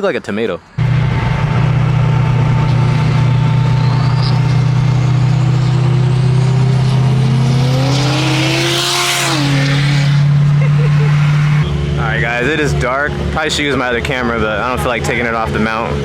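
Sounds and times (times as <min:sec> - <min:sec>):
car accelerating: 0:00.8 - 0:16.0
car engine droning: 0:00.8 - 0:16.0.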